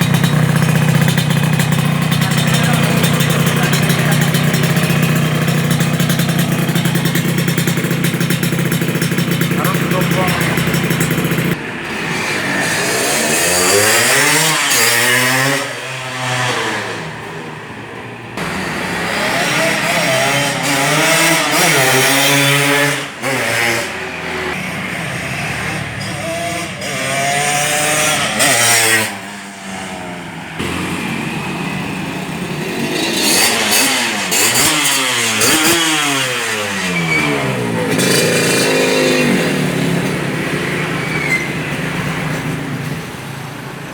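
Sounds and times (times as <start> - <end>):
two-stroke motorcycle engine revving: 0.0 - 43.9.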